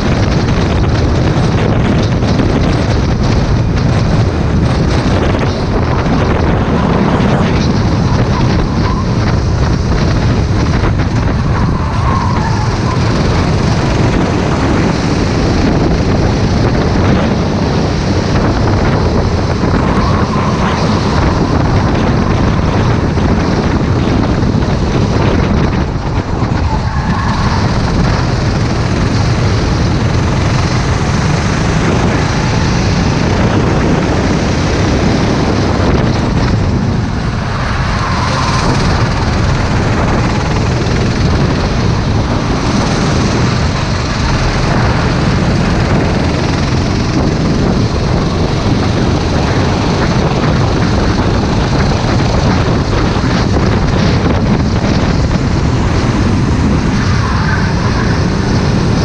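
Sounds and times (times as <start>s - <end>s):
kart engine running hard: 0.0s - 59.0s
wind buffeting microphone: 0.0s - 59.0s.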